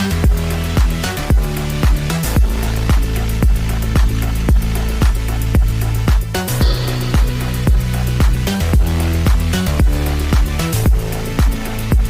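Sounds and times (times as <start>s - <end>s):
deep bass line: 0.0s - 12.0s
electronic dance music: 0.0s - 12.0s
heavy kick drum: 0.2s - 12.0s.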